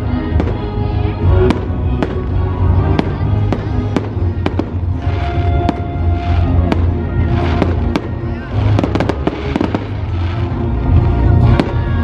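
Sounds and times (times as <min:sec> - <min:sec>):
music with heavy bass: 0:00.0 - 0:12.0
fireworks bursting with bangs: 0:00.2 - 0:12.0.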